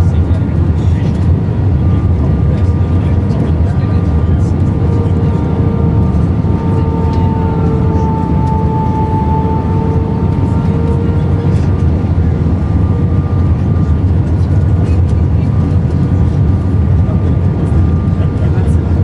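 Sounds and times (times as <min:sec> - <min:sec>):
airflow rushing in aircraft cabin: 0:00.0 - 0:19.0
deep engine rumble: 0:00.0 - 0:19.0
steady engine tone: 0:00.0 - 0:19.0.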